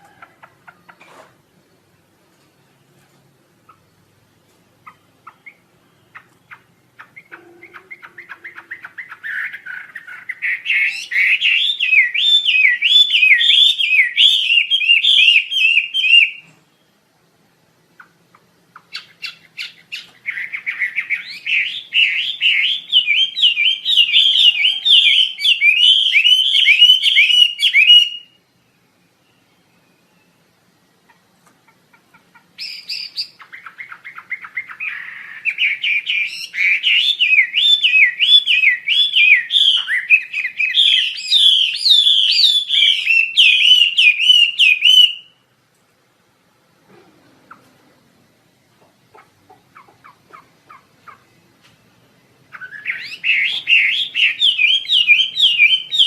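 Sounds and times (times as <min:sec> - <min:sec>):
songbird singing: 0:00.0 - 0:45.6, 0:47.2 - 0:56.0.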